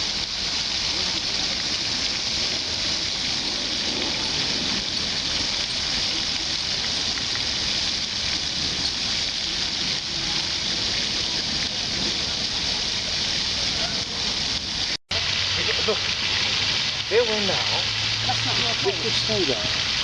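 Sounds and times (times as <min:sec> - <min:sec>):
falling water hiss: 0:00.0 - 0:20.0.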